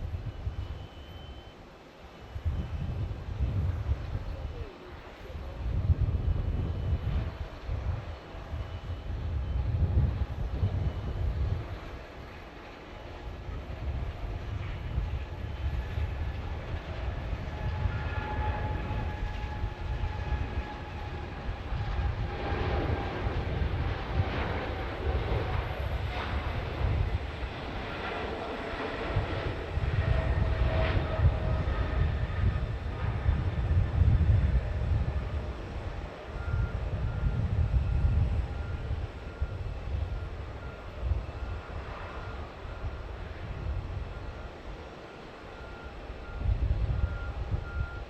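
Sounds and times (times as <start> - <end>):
jet airliner engines passing: 0.0 - 48.0.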